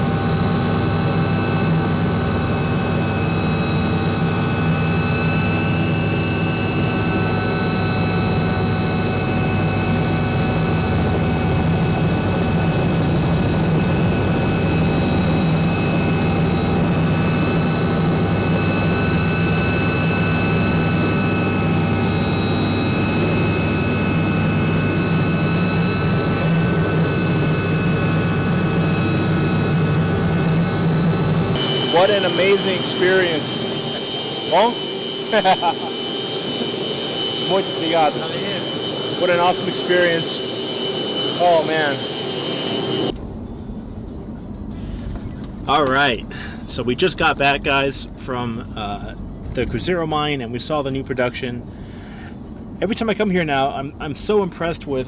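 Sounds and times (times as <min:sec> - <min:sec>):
helicopter engine and rotor: 0:00.0 - 0:49.6, 0:51.6 - 0:54.9.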